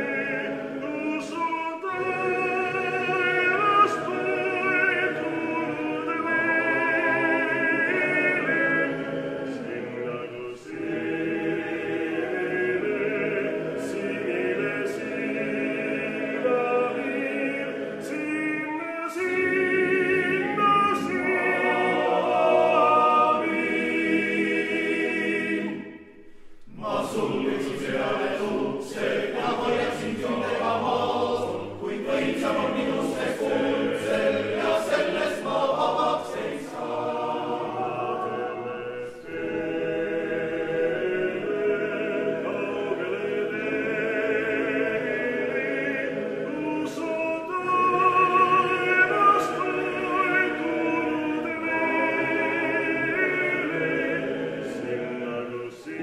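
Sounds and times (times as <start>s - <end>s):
male choir singing a cappella: 0.0s - 56.0s.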